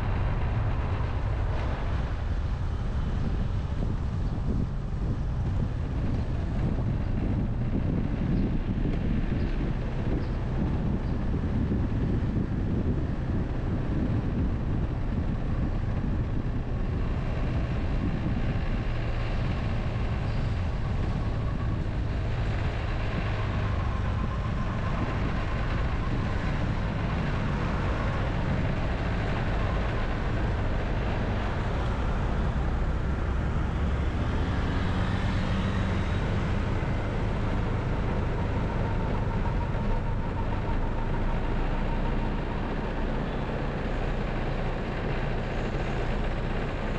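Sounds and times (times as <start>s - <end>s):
engine and road noise: 0.0s - 46.9s.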